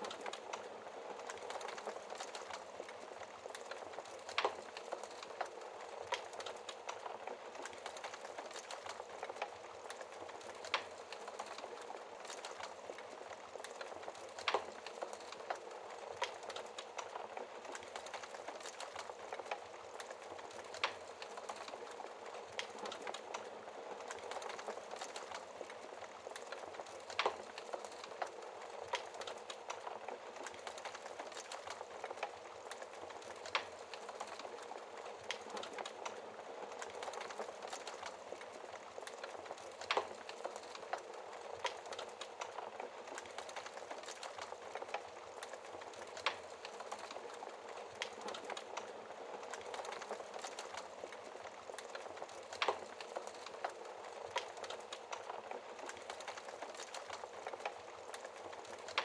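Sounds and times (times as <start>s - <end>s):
fire crackling in a fireplace: 0.0s - 59.0s.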